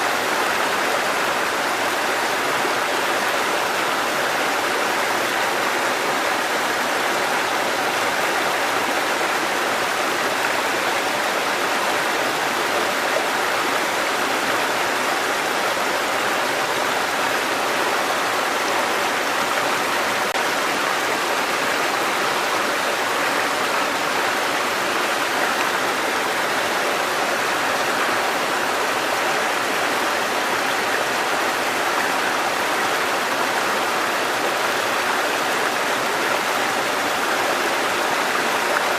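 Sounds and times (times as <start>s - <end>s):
stream water rushing over rocks: 0.0s - 38.9s.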